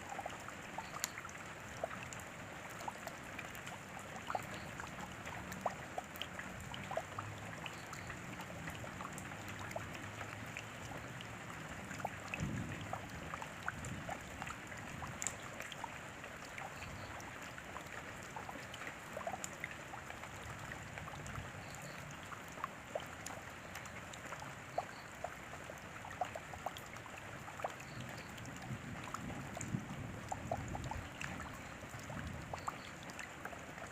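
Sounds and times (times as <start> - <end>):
raindrops ticking on a surface: 0.0 - 33.9
steady rain falling: 0.0 - 33.9.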